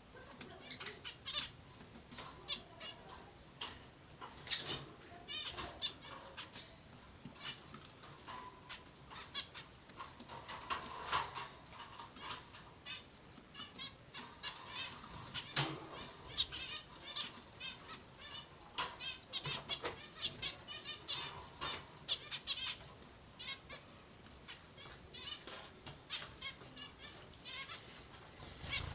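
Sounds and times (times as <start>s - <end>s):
finches chirping: 0.4s - 28.9s.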